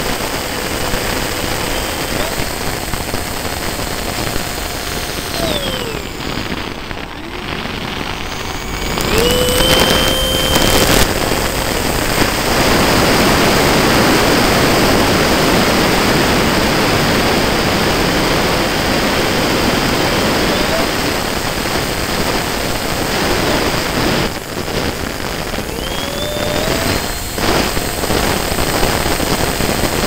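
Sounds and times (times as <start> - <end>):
jet engine whine: 0.0 - 30.0.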